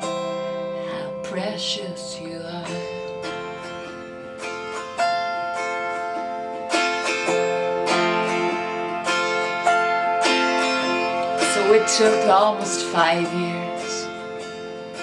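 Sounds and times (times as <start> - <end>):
autoharp strummed: 0.0 - 15.0.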